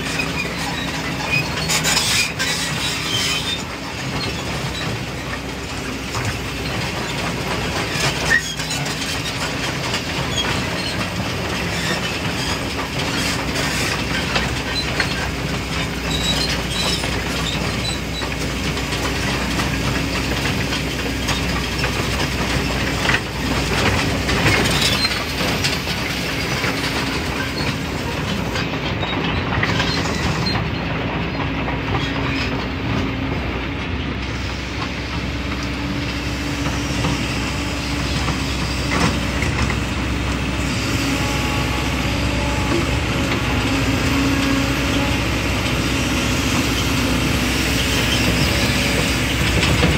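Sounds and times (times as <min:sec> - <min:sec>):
excavator diesel engine humming: 0:00.0 - 0:49.9.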